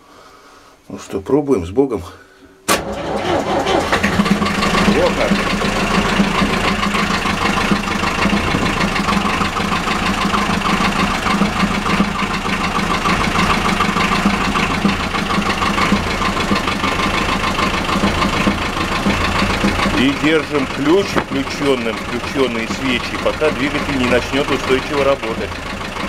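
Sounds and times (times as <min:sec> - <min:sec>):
diesel engine idling: 0:02.8 - 0:26.0.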